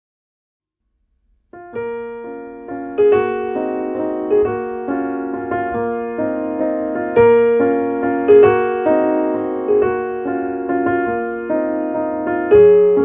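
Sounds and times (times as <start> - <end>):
slow gentle piano music: 1.3 - 13.0.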